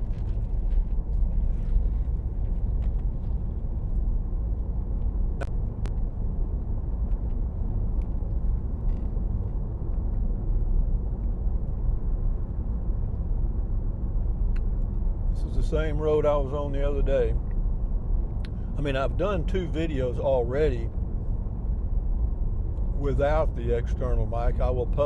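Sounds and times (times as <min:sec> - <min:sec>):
road and tyre rumble: 0:00.0 - 0:25.0.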